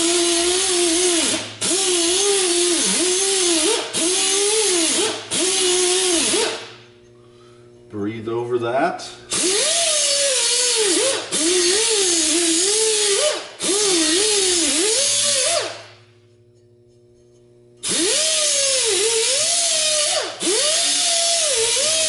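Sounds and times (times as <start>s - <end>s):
die grinder grinding steel: 0.0s - 6.7s, 9.3s - 15.9s, 16.7s - 22.0s.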